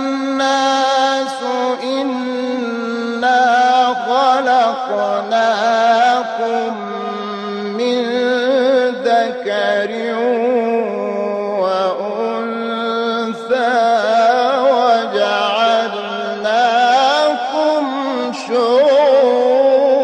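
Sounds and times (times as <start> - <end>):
man chanting recitation: 0.0 - 20.0.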